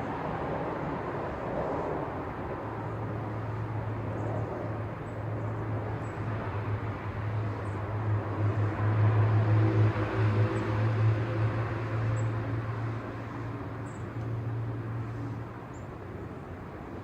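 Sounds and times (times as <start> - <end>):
city traffic: 0.0 - 17.0
low engine hum: 0.0 - 17.0.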